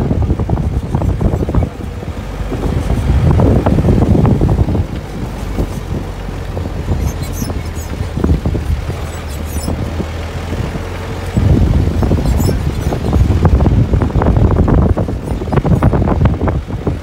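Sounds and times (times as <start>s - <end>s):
vehicle engine and tyres rumbling: 0.0s - 17.0s
wind buffeting microphone: 0.0s - 17.0s.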